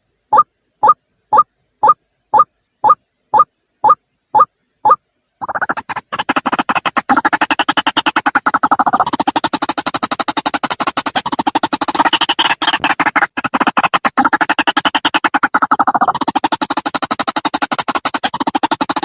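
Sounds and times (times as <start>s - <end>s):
bird call of rapid croaking pulses: 0.3s - 19.0s.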